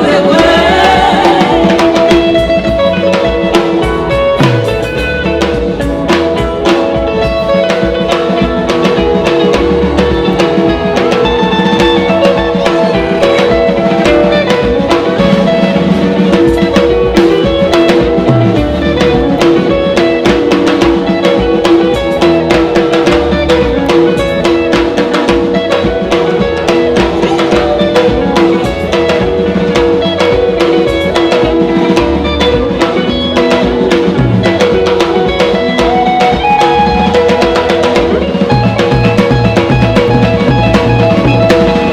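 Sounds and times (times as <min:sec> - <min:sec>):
drum kit beat: 0:00.0 - 0:41.9
gospel music: 0:00.0 - 0:41.9.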